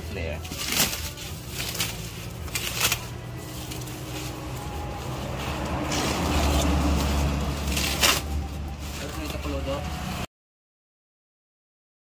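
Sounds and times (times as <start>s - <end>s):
plastic wrapping rustling: 0.0s - 10.3s
vehicle engine rumbling: 0.0s - 10.3s.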